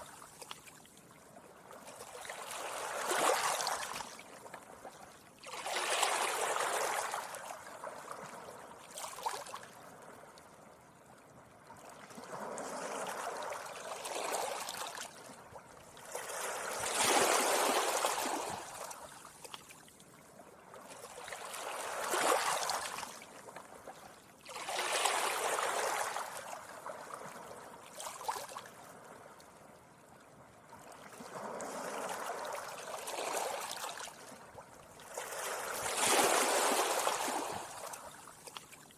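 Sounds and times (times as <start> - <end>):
small waves washing on beach: 0.0 - 19.8, 20.5 - 38.9.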